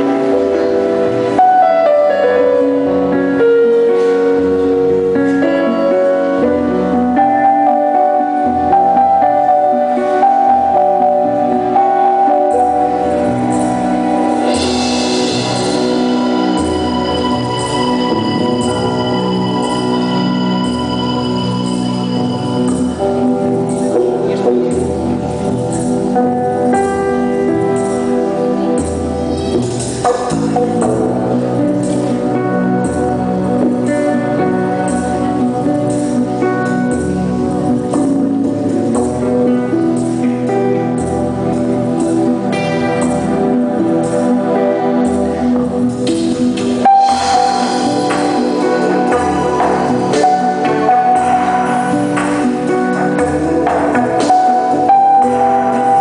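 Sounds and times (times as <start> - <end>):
slow piano music: 0.0 - 56.0.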